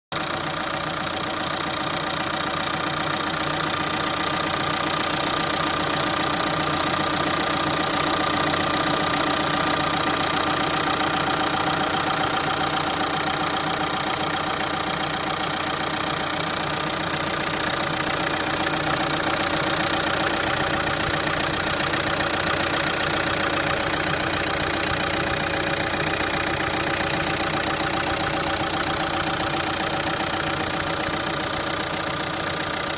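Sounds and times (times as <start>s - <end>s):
diesel engine idling with ticking: 0.1s - 32.9s.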